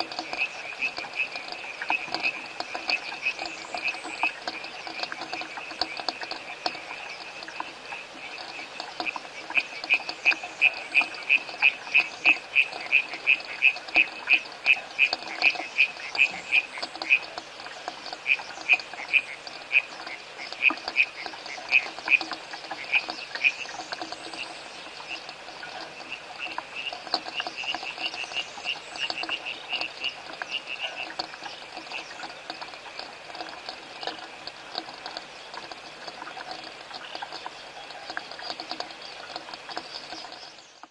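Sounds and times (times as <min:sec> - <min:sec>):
chorus of frogs: 0:00.0 - 0:40.9.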